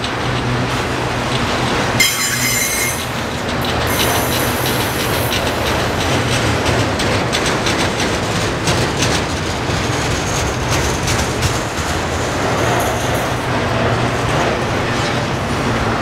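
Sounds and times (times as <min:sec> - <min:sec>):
clicks and knocks of rail cars: 0:00.0 - 0:16.0
train wheels rumbling on rail: 0:00.0 - 0:16.0.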